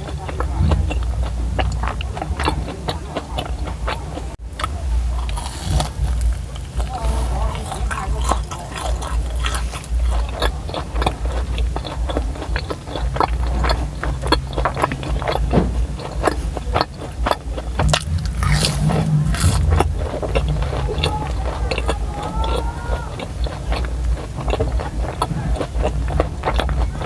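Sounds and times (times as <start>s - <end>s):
low rumble: 0.0s - 27.0s
person chewing: 0.0s - 27.0s.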